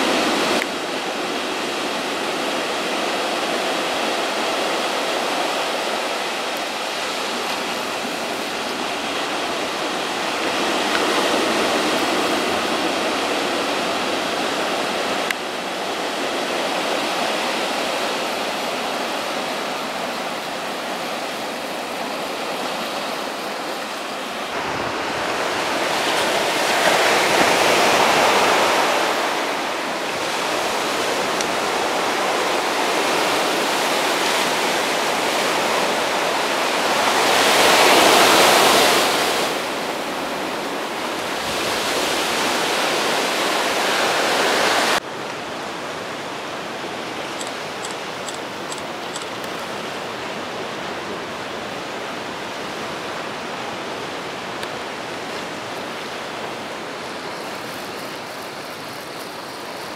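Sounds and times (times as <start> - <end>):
ocean surf breaking: 0.0 - 59.9.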